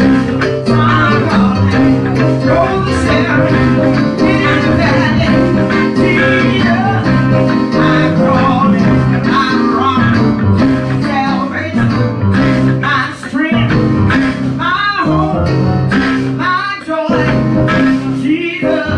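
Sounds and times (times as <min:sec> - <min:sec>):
guitar: 0:00.0 - 0:18.9
live church band music: 0:00.0 - 0:18.9
stepping bass line: 0:00.0 - 0:18.9.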